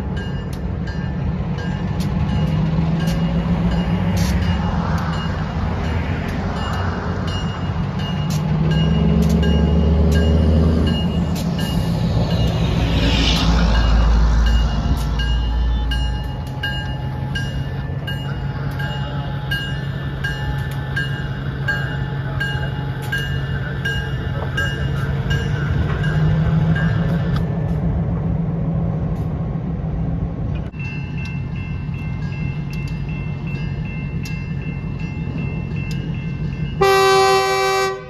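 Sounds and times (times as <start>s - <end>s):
diesel locomotive engine running: 0.0s - 38.0s.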